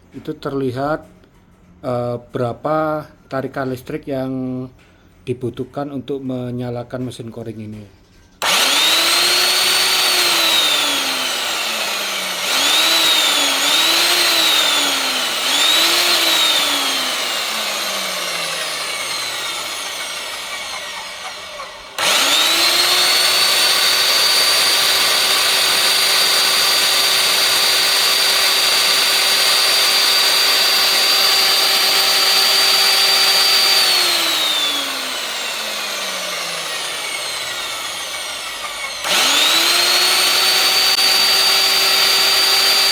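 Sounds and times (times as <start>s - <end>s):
core drill motor whining: 8.4s - 42.9s.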